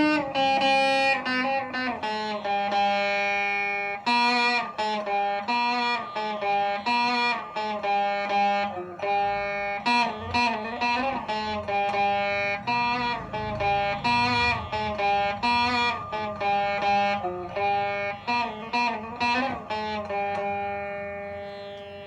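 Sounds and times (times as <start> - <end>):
veena melody of plucked notes: 0.0 - 22.0.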